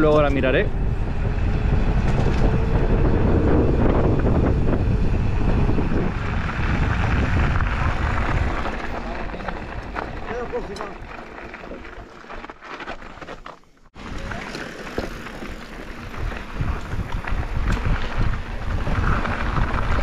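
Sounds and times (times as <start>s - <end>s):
wind buffeting microphone: 0.0s - 12.0s, 14.0s - 20.0s
bike tyres rattling over dirt: 0.0s - 20.0s.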